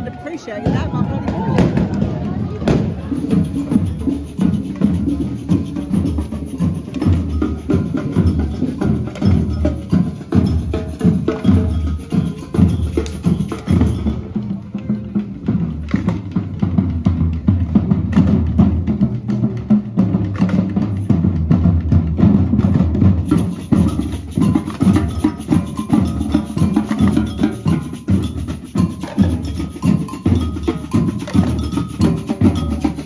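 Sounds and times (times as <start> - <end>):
marching band drumbeat: 0.0 - 33.0
marching band melody: 0.0 - 33.0.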